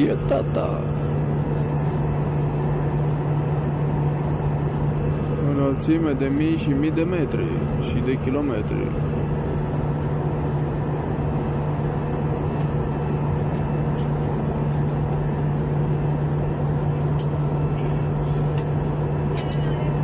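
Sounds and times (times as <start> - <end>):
airliner cabin engine drone: 0.0 - 20.0
constant low hum: 0.0 - 20.0.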